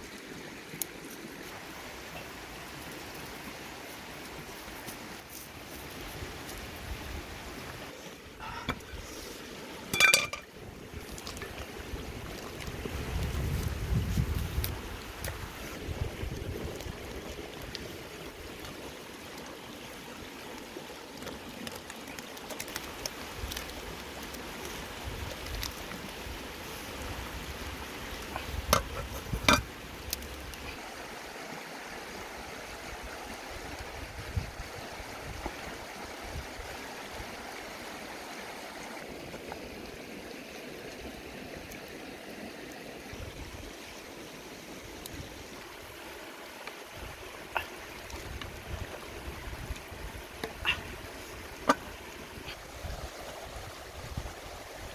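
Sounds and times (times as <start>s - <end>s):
river flowing over rocks: 0.0s - 13.5s, 14.7s - 54.9s.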